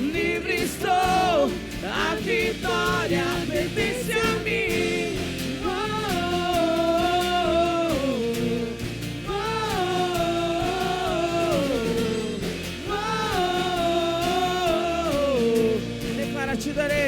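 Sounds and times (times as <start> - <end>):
band backing: 0.0 - 17.0
voices singing held phrases: 0.0 - 17.0.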